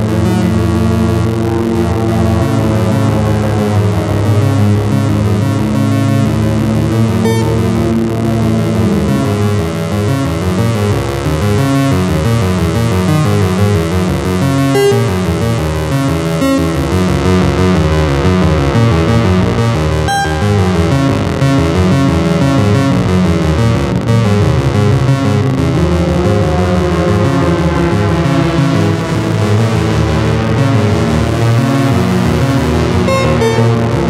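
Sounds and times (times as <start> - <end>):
ambient synthesizer music: 0.0 - 34.0.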